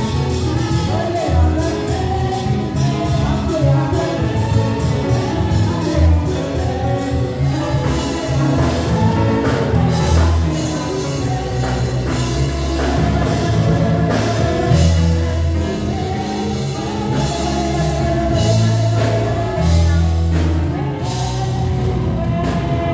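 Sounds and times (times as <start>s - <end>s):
gospel band playing: 0.0s - 22.9s
women singing: 0.0s - 22.9s.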